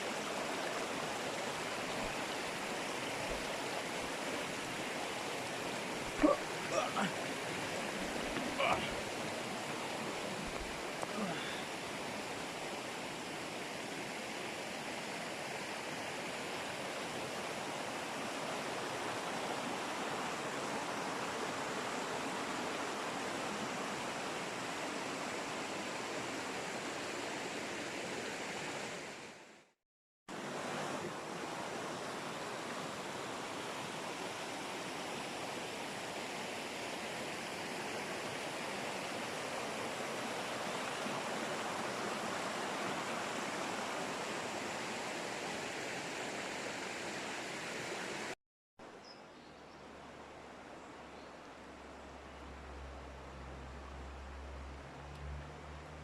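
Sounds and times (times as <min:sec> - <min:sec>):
river water rushing: 0:00.0 - 0:29.5, 0:30.3 - 0:49.0, 0:49.7 - 0:56.0.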